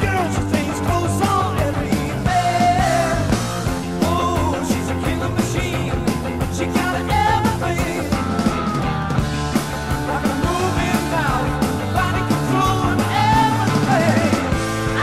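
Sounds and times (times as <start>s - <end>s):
person singing: 0.0s - 9.4s, 10.0s - 15.0s
distorted guitar: 0.0s - 15.0s
drums: 0.0s - 15.0s.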